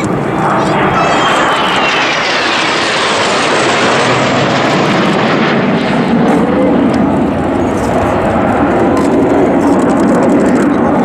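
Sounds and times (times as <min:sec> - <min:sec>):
jet engine whine: 0:00.0 - 0:11.0
jets roaring overhead: 0:00.0 - 0:11.0.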